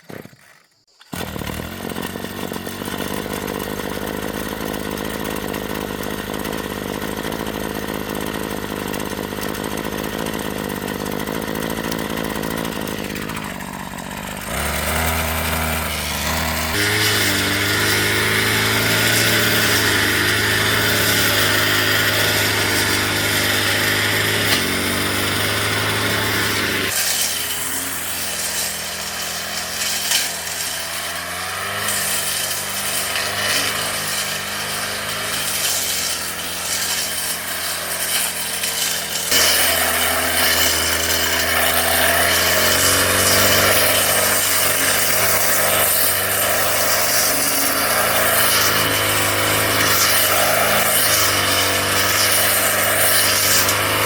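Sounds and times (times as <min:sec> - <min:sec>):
brush cutter engine cutting weeds: 0:00.0 - 0:54.0.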